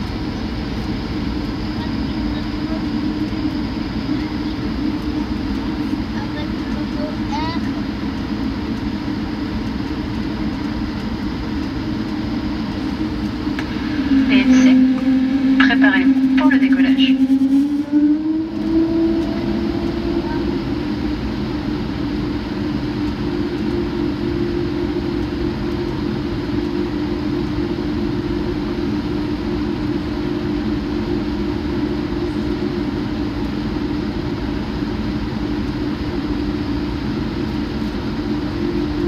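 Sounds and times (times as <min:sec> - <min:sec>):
cabin air running: 0:00.0 - 0:39.0
jet engines at low power: 0:00.0 - 0:39.0.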